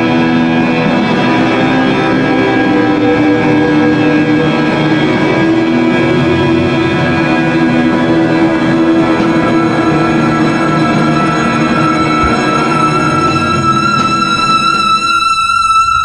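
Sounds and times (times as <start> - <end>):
guitars and double bass playing: 0.7 - 14.4.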